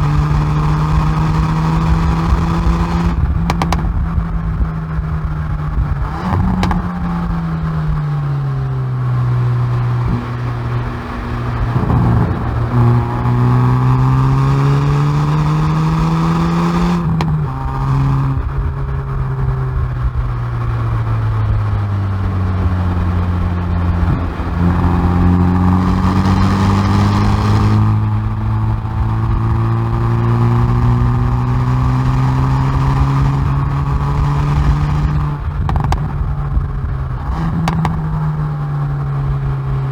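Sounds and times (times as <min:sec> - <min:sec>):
car exhaust under acceleration: 0:00.0 - 0:39.9.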